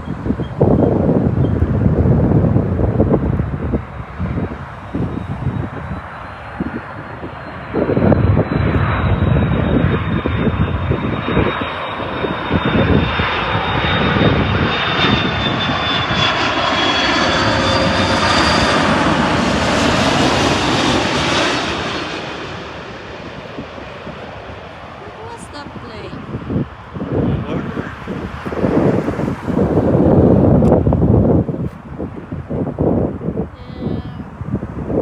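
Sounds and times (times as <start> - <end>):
jet engine whine: 0.0 - 35.0
rushing jet engine noise: 0.0 - 35.0
wind buffeting microphone: 0.0 - 35.0.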